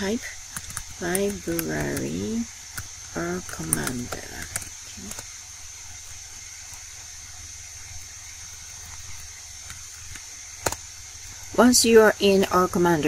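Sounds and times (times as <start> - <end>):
background hiss: 0.0 - 13.0
low electrical hum: 0.0 - 13.0.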